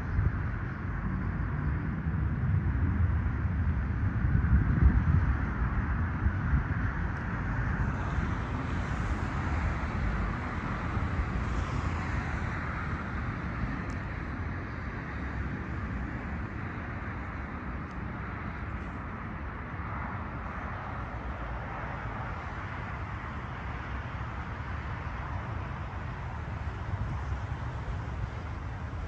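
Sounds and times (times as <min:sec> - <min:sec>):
outdoor rumble and hiss: 0:00.0 - 0:29.0.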